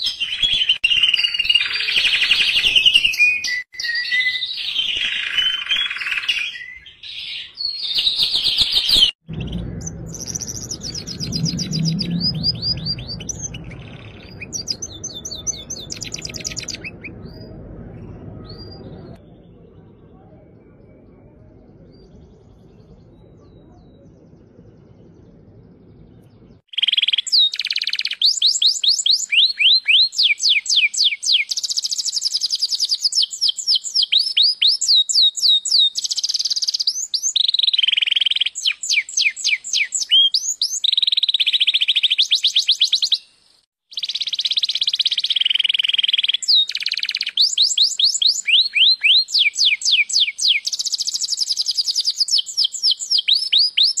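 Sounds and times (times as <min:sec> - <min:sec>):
canary singing: 0:00.0 - 0:20.0, 0:22.0 - 0:54.0.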